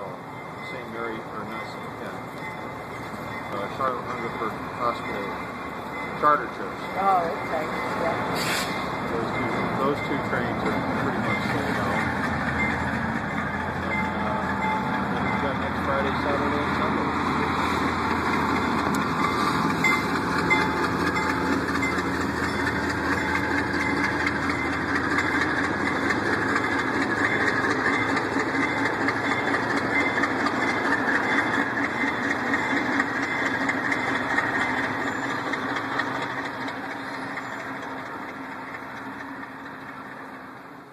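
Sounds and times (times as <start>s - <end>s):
passenger train rolling past: 0.0s - 40.9s.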